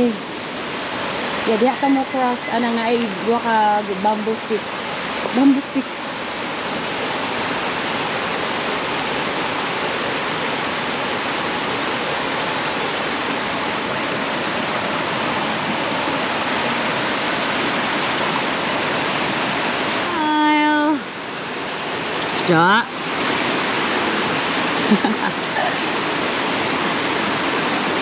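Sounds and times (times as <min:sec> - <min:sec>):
fast-flowing river water: 0:00.0 - 0:28.0.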